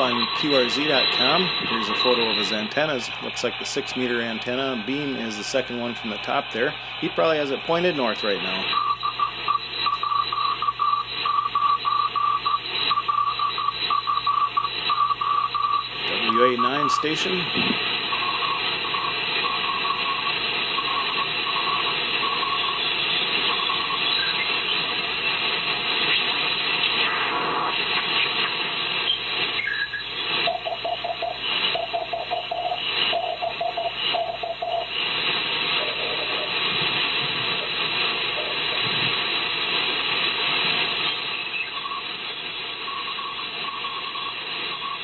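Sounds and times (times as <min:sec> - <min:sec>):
raspy morse code tones: 0:00.0 - 0:26.4, 0:29.1 - 0:35.0, 0:41.1 - 0:45.0
radio band noise hiss: 0:00.0 - 0:45.0.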